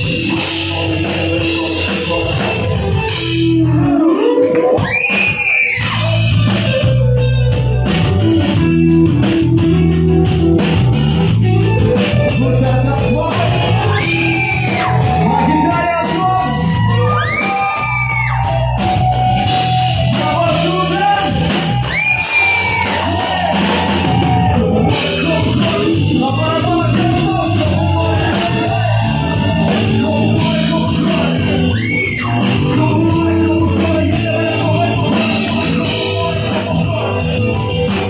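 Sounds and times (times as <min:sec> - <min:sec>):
man singing and shouting: 0:00.0 - 0:06.8, 0:11.8 - 0:38.0
live rock band playing: 0:00.0 - 0:38.0.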